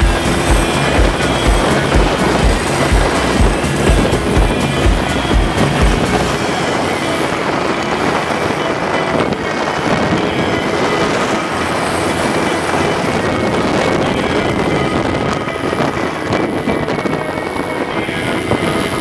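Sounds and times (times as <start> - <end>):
quad bike engine rumble: 0.0 - 19.0.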